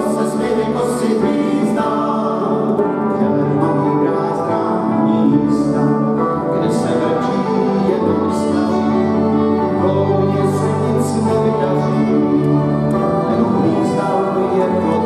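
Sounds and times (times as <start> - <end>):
bowed violins: 0.0 - 15.0
double bass: 0.0 - 15.0.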